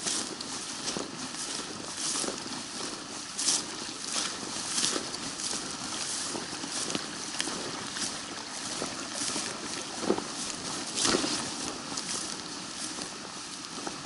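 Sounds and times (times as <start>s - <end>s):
creek flowing over rocks: 0.0s - 14.0s
footsteps through tall grass: 0.0s - 14.0s.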